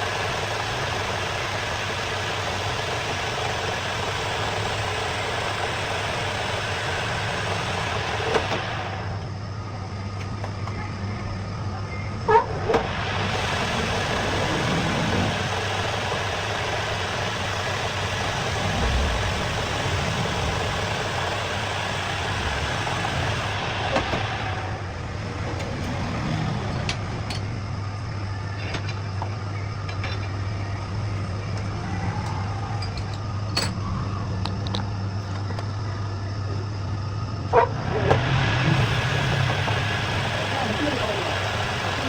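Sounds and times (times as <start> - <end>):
engine idling: 0.0 - 42.0.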